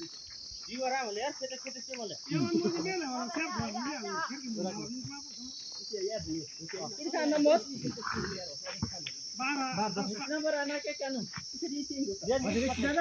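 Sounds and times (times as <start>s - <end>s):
crickets trilling: 0.0s - 13.0s
indistinct voices talking: 0.0s - 13.0s.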